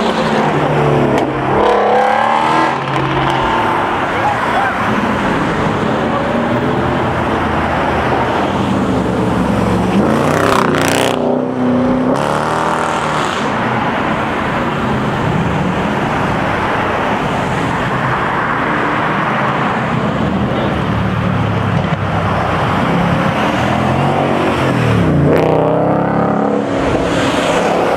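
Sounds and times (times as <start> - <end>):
traffic noise: 0.0 - 27.9.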